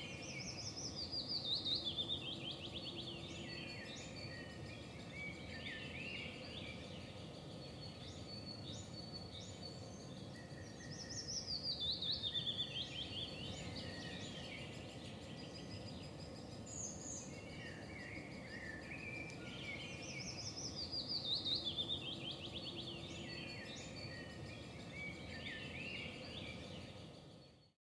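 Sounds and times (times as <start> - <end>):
low background hiss: 0.0 - 27.7
wild birds singing: 0.0 - 27.8.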